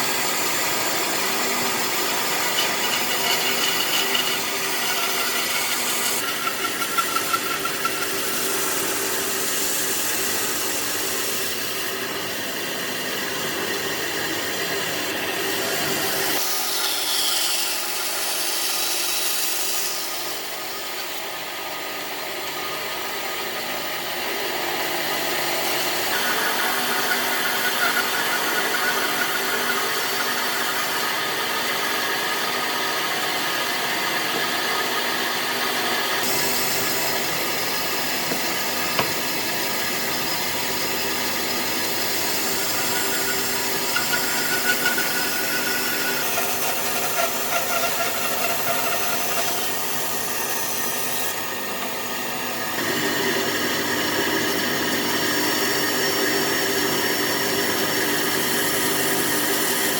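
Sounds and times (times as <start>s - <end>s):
power tools working wood: 0.0s - 59.9s.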